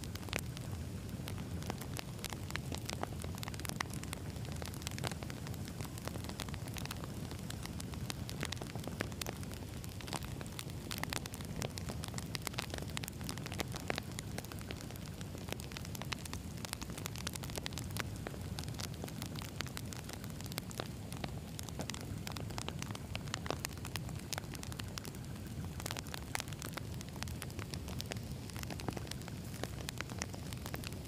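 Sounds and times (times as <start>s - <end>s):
fire crackling and popping: 0.0s - 31.0s
rumble of flames: 0.0s - 31.0s.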